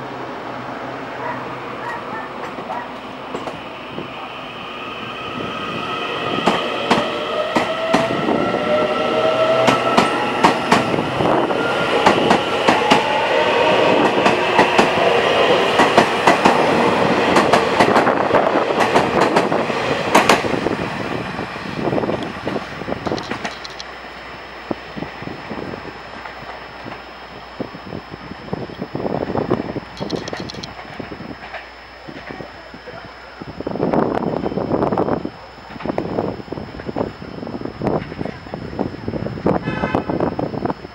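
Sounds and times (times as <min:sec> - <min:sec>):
traction motors whining: 0:01.8 - 0:40.9.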